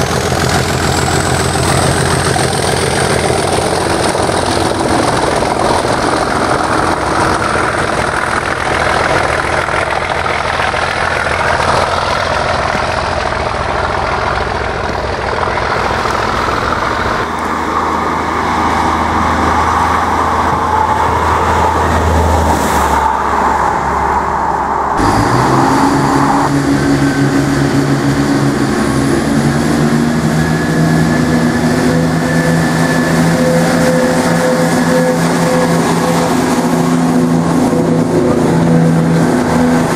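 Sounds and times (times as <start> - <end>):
diesel locomotive engine: 0.0 - 39.9
wheel and rail noise: 0.0 - 39.9.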